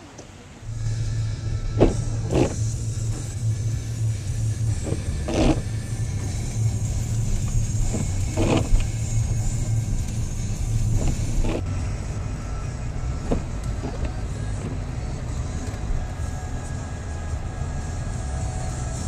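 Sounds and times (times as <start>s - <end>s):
car engine and road rumble: 0.0s - 19.0s
windshield wipers swishing: 0.2s - 18.3s.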